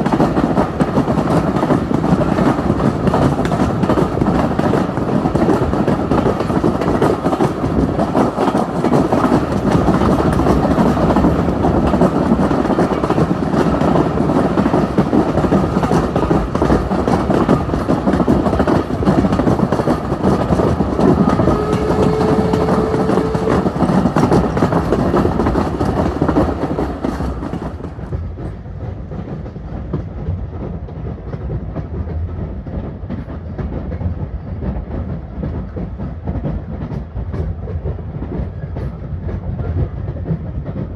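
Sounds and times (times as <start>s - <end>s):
wheels rumbling on rail: 0.0s - 40.9s.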